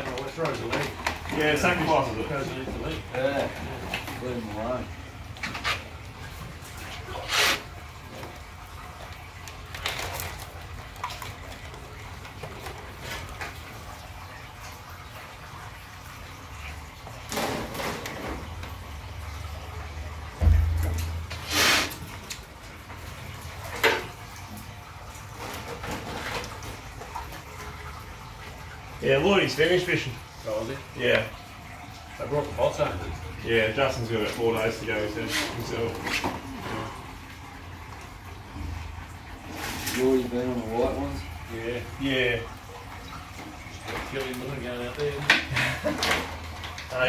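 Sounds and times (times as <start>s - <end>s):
water sloshing and splashing: 0.0s - 47.0s.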